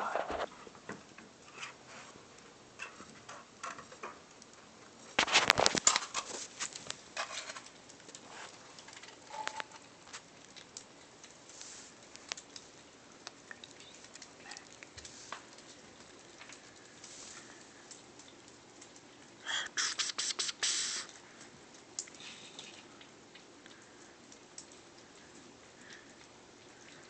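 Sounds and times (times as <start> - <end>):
kittens eating from a bowl: 0.0 - 27.0.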